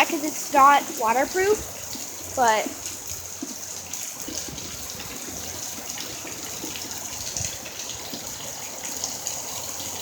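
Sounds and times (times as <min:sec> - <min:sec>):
heavy rain pouring: 0:00.0 - 0:10.0
raindrops ticking close by: 0:00.0 - 0:10.0.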